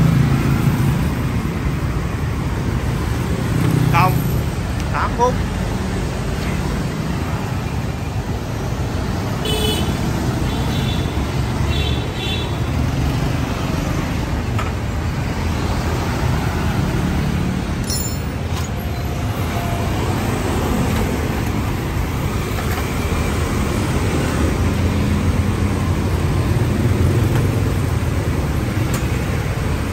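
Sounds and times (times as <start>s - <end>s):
motorbikes and cars passing: 0.0s - 29.9s.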